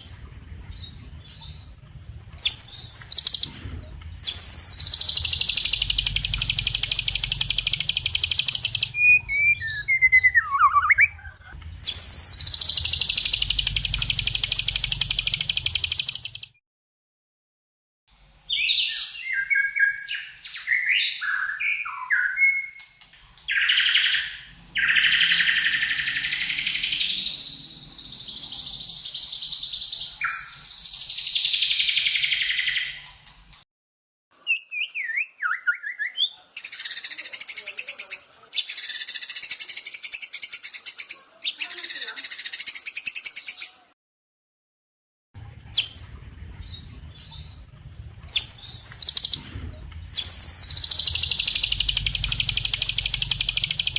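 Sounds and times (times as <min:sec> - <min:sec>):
songbird singing: 0:00.0 - 0:16.6, 0:18.4 - 0:33.3, 0:34.4 - 0:43.8, 0:45.7 - 0:53.9.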